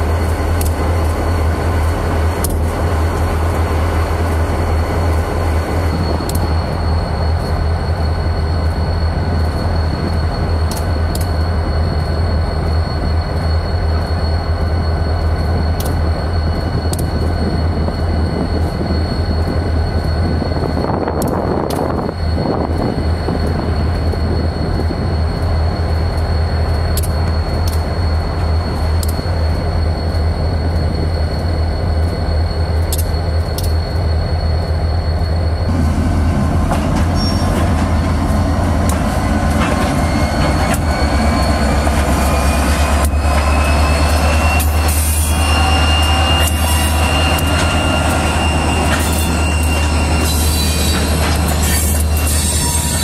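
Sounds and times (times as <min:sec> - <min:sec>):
high wheel squeal: 0:00.0 - 0:35.8, 0:36.5 - 0:53.0
diesel locomotives rolling past: 0:00.0 - 0:53.0
train clanks: 0:00.0 - 0:53.0.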